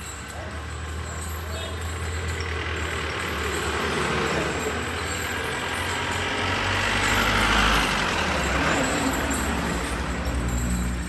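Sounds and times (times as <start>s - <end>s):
truck engine humming: 0.0s - 11.0s
vehicle passing close by: 1.9s - 11.0s.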